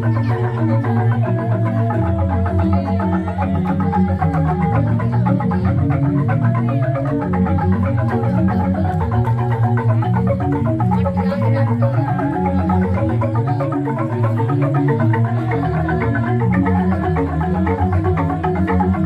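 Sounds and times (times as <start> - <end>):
bamboo xylophone strikes: 0.0 - 19.0.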